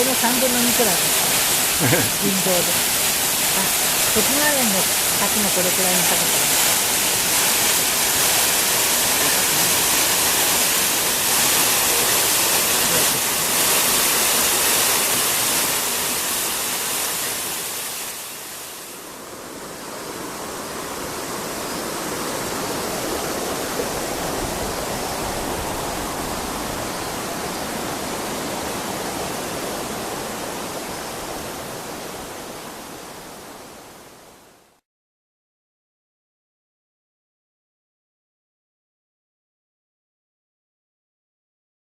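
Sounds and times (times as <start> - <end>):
small waterfall rushing: 0.0 - 34.8.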